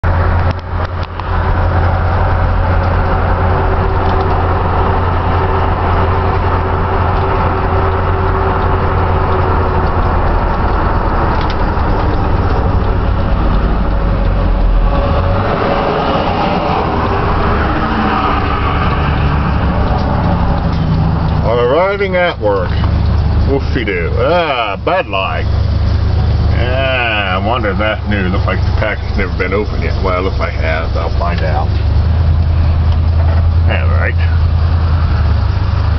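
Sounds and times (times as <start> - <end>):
van engine and road rumble: 0.0 - 35.9.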